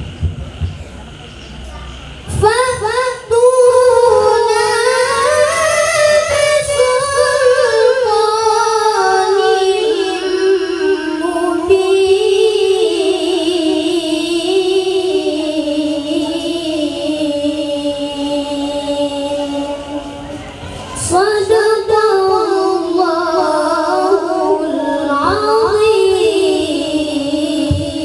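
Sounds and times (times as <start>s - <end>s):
boy reciting melodically: 1.6s - 28.0s.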